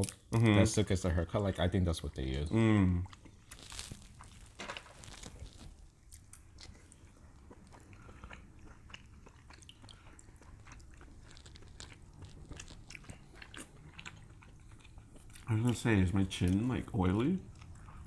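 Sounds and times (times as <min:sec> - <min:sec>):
chewing with crunches: 0:03.0 - 0:18.0.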